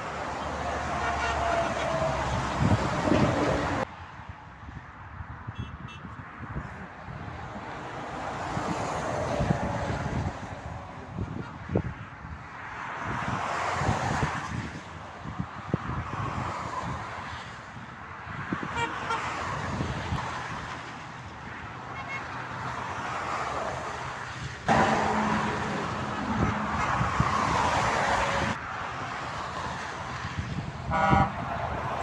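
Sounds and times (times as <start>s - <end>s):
vehicles passing on motorway: 0.0s - 32.0s.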